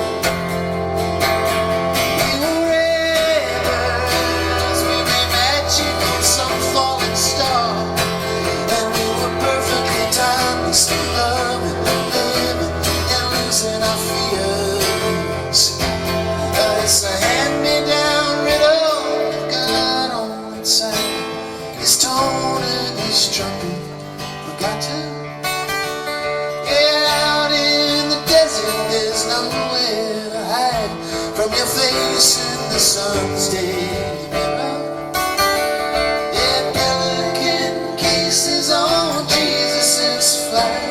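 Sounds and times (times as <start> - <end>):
lead guitar: 0.0 - 40.9
live band playing: 0.0 - 40.9.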